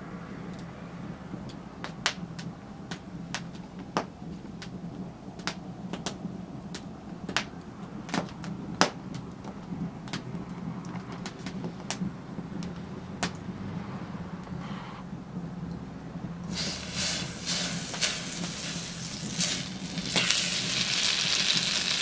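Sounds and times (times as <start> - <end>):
wood fire crackling: 1.3 - 13.6, 16.4 - 22.0.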